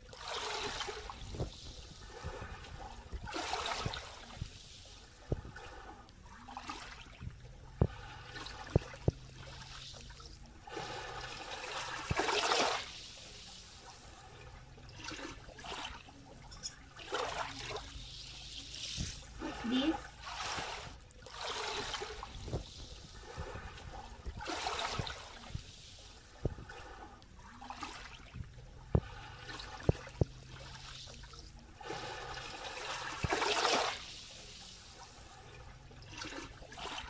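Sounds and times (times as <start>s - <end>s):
small waves lapping on sand: 0.0s - 37.0s.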